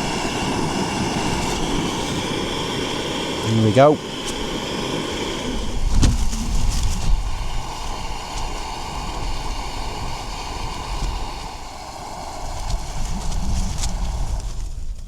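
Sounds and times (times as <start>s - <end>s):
low wind rumble: 0.0s - 15.0s
stove burning with hiss: 0.0s - 15.0s.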